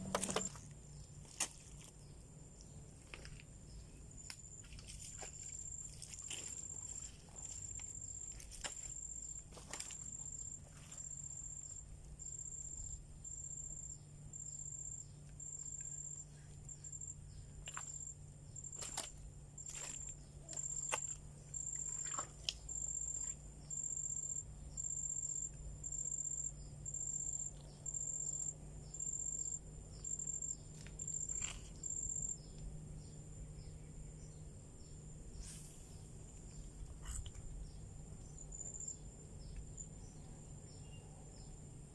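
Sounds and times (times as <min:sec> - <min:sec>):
insect chirping: 0:00.0 - 0:41.9
low steady hum: 0:00.0 - 0:41.9.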